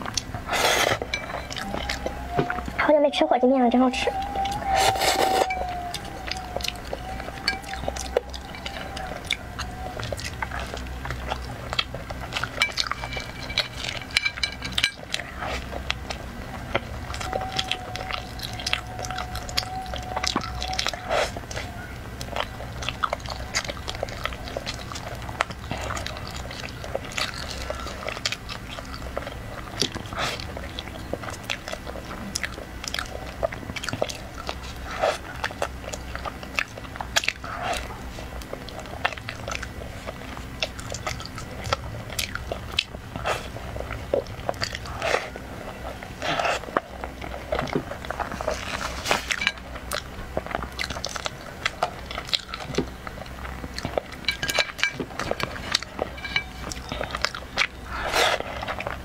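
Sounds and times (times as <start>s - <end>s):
person chewing soft cake: 0.0s - 2.8s, 3.9s - 59.0s.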